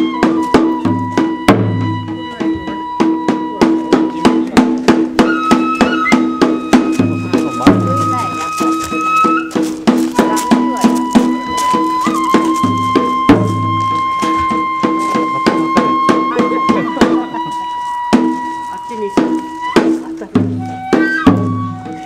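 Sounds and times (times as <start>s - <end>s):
bamboo flute long high notes: 0.0s - 4.6s, 5.2s - 22.0s
drum beat: 0.0s - 22.0s.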